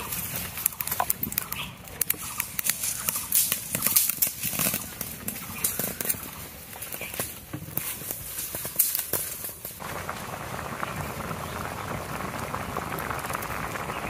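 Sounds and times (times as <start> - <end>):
fire crackling and snapping: 0.0 - 14.0.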